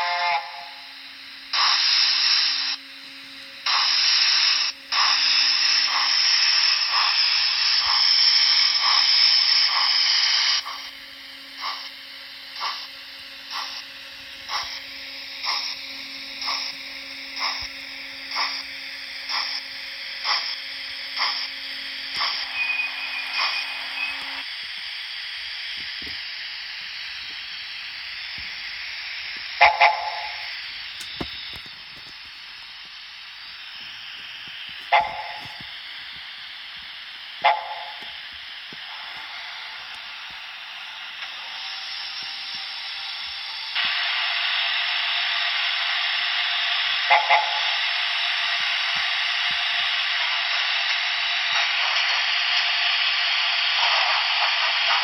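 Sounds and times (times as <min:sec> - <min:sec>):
steam hiss: 0:00.0 - 0:55.0
steam locomotive chuffing: 0:00.0 - 0:55.0.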